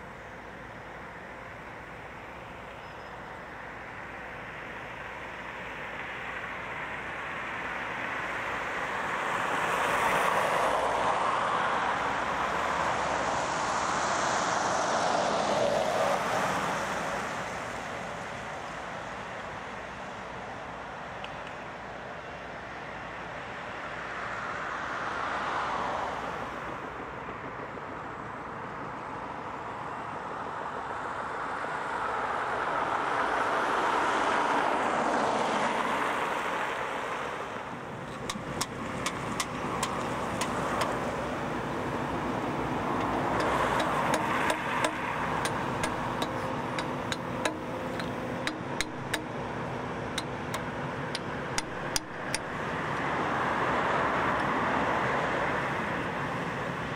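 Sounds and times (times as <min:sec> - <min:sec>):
steady engine hum: 0:00.0 - 0:24.8, 0:36.0 - 0:56.9
cars and trucks passing: 0:00.0 - 0:56.9.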